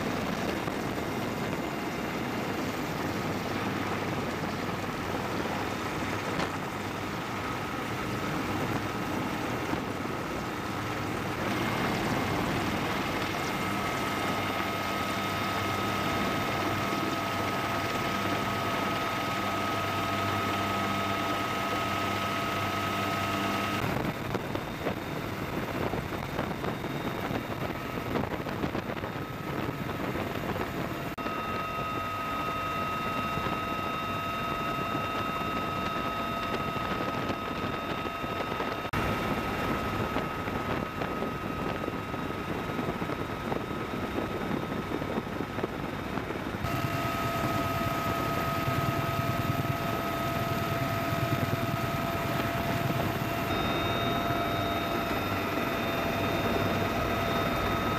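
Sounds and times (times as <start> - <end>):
helicopter turbine engines whining: 0.0 - 57.9
rotor and wind rushing: 0.0 - 57.9.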